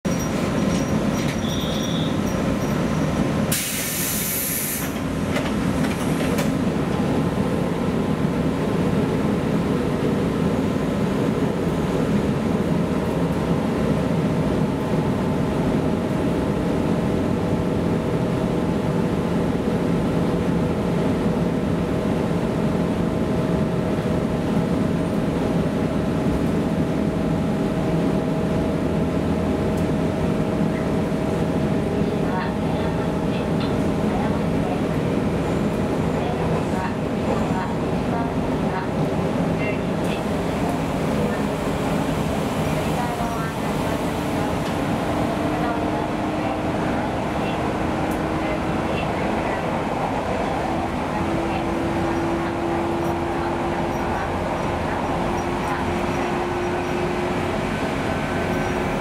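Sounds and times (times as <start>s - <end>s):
wheels rumbling on rail: 0.0s - 59.0s
train motor hum: 4.8s - 59.0s.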